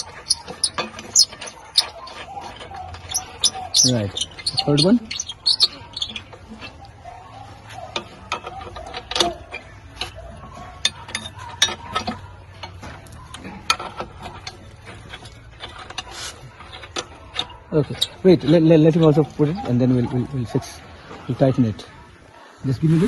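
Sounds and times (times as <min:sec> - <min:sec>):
metal bolts and spanner clinking: 0:00.0 - 0:20.4.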